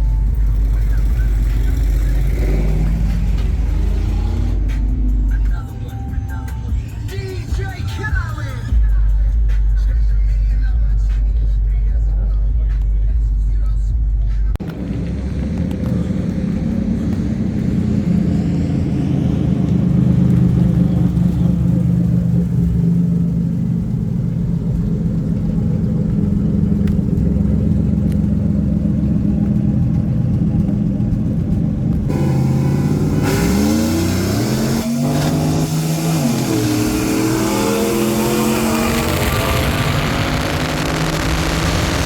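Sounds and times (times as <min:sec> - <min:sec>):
engine revving: 0:00.0 - 0:08.9, 0:14.6 - 0:42.0
engine droning: 0:00.0 - 0:42.0.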